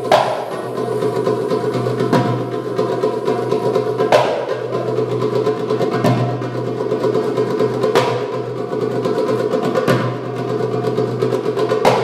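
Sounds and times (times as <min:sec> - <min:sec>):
hand drum solo: 0:00.0 - 0:12.0.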